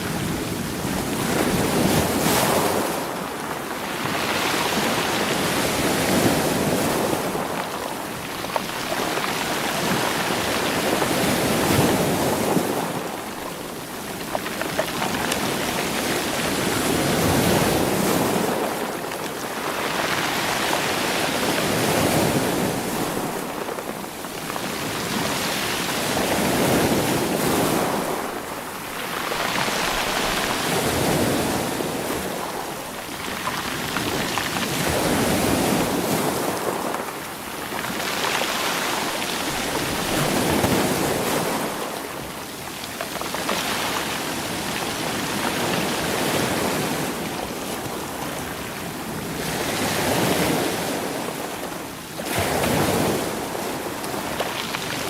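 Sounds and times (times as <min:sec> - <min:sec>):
waves washing over rocks: 0:00.0 - 0:55.0.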